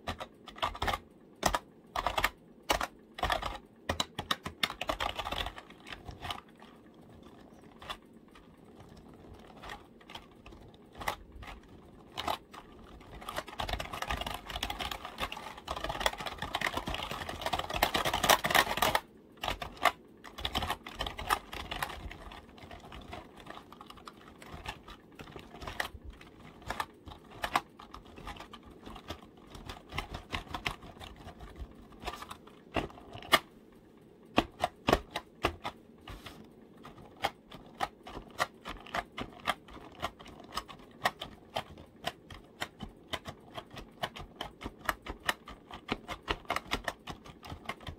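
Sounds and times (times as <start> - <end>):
typing on computer keyboard: 0.0 - 33.5, 34.3 - 35.8, 36.7 - 47.9.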